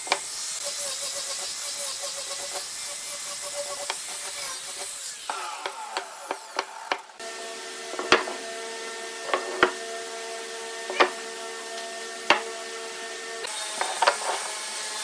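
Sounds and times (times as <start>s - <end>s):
small electric machine humming: 0.0s - 15.0s.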